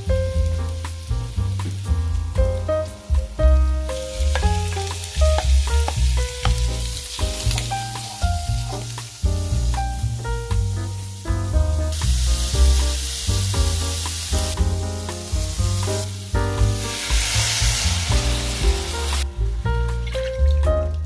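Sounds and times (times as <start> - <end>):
background music: 0.1 - 21.0.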